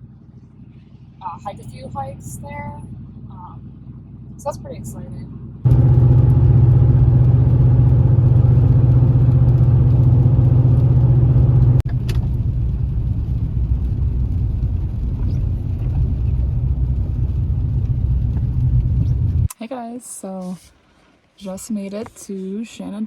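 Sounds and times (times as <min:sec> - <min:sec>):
truck engine hum: 0:00.0 - 0:19.5
road rumble: 0:00.0 - 0:19.6.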